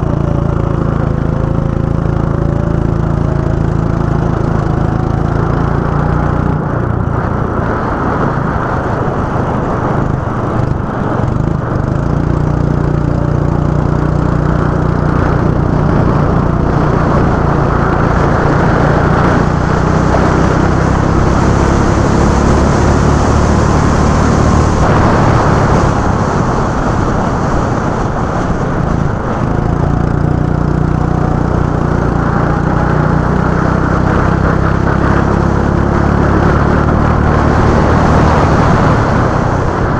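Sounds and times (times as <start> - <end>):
go-kart engines racing: 0.0 - 39.9.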